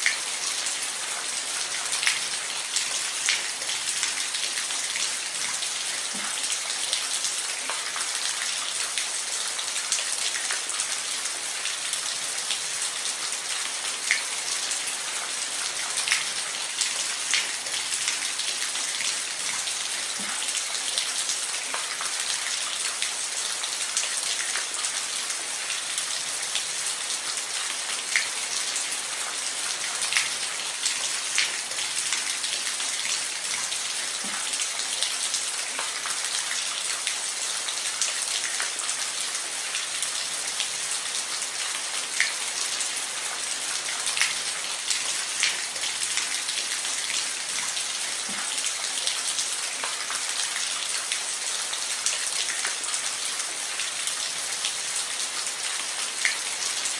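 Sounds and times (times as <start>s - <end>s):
rain falling on a roof: 0.0s - 56.9s.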